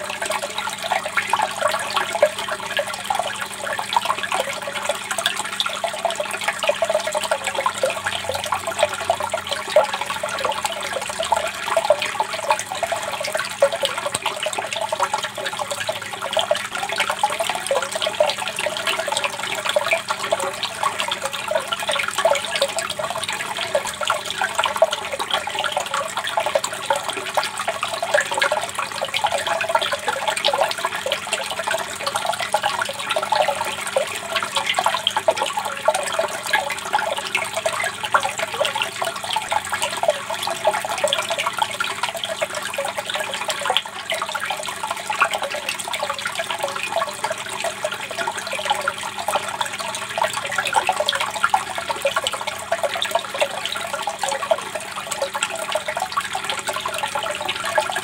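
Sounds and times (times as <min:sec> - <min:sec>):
water pouring into a pool: 0:00.0 - 0:58.0.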